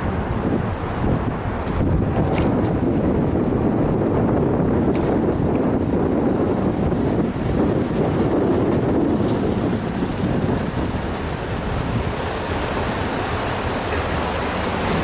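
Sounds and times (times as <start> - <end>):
wind buffeting and road vibration: 0.0 - 15.0.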